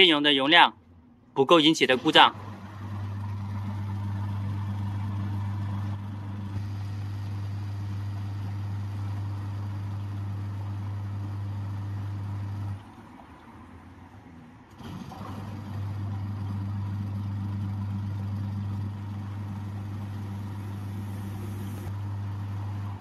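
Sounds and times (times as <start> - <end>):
washing machine motor humming: 1.7 - 13.0, 14.8 - 23.0.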